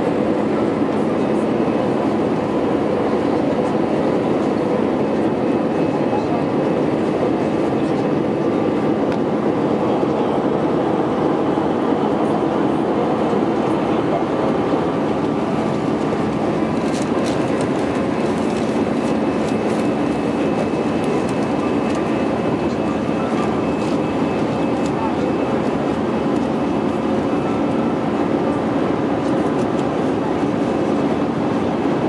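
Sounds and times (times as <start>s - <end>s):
faint steady engine tones: 0.0s - 32.0s
jet engine roar in cabin: 0.0s - 32.0s.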